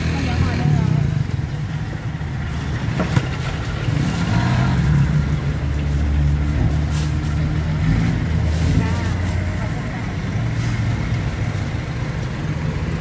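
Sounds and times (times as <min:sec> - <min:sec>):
passing road traffic rumble: 0:00.0 - 0:13.0.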